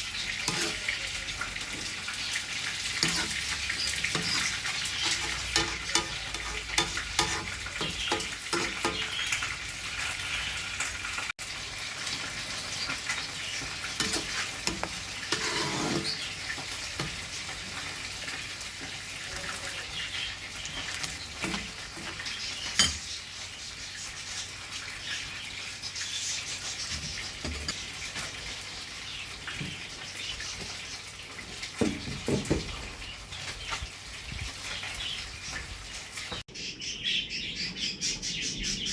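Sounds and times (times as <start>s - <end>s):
food sizzling in a pan: 0.0s - 31.8s.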